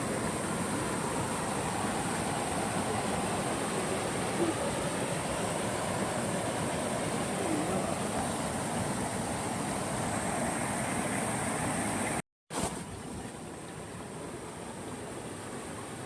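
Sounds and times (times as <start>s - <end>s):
waterfall and river rushing: 0.0s - 16.0s.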